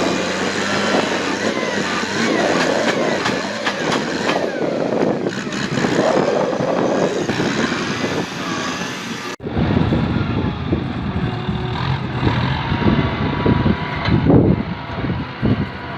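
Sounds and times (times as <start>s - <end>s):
tractor engine running: 0.0s - 15.9s.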